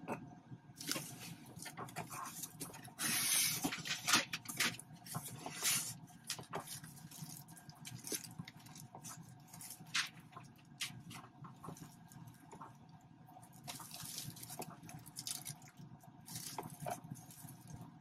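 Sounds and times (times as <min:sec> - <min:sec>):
plastic bag rustling: 0:00.8 - 0:12.8, 0:13.4 - 0:18.0.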